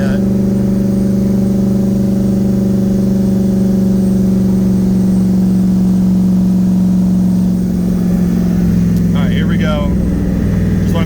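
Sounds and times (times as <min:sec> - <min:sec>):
car engine drone at cruise: 0:00.0 - 0:11.0.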